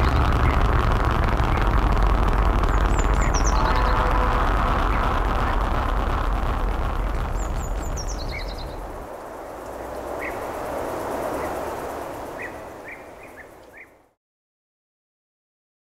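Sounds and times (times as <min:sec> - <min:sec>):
background hiss: 0:00.0 - 0:14.0
small birds chirping: 0:00.0 - 0:14.0.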